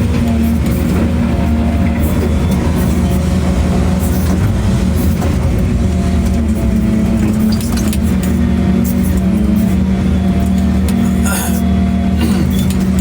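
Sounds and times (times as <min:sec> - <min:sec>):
diesel machinery engine running: 0:00.0 - 0:13.0.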